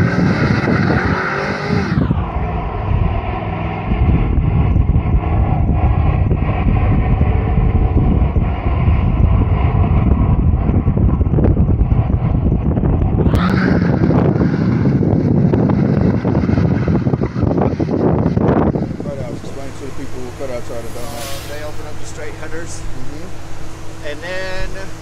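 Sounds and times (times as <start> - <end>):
car engine at high revs: 0.0 - 25.0.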